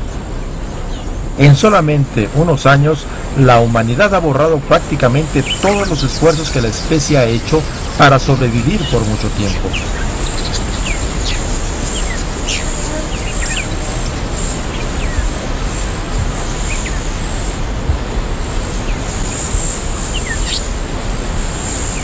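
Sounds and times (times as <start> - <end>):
high insect buzz: 0.0 - 22.0.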